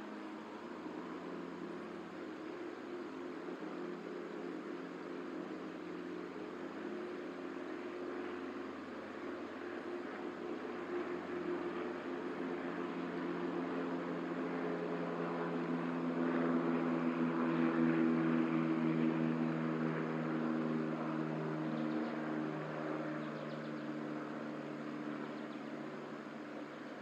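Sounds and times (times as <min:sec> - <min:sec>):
passing engine hum: 0:00.0 - 0:27.0.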